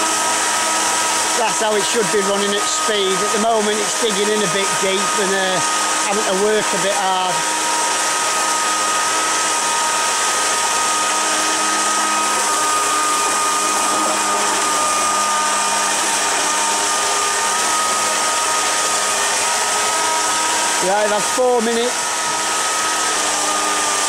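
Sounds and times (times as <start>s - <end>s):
electric motor whine: 0.0s - 24.0s
water jet rushing: 0.0s - 24.0s.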